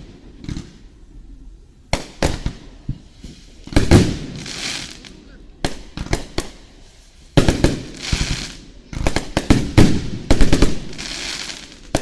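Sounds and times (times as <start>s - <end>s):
fireworks rushing hiss: 0.0s - 12.0s
fireworks bangs: 1.9s - 12.0s.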